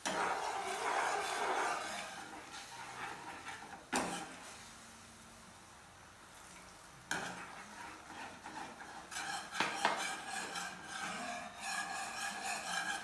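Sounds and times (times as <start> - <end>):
spoon scraping food in a wok: 0.0 - 4.6, 7.1 - 13.0.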